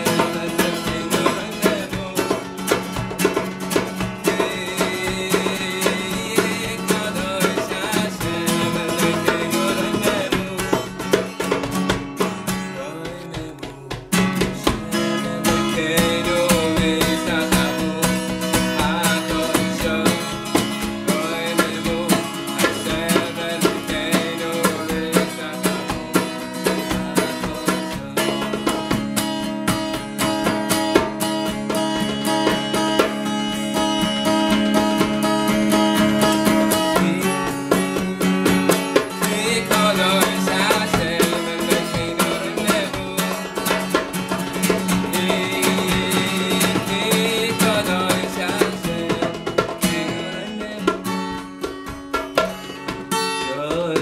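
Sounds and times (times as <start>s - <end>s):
man singing wordless melody: 0.0s - 3.0s, 3.8s - 11.5s, 12.4s - 29.6s, 33.8s - 51.6s, 53.3s - 54.0s
acoustic guitar strumming: 0.0s - 54.0s.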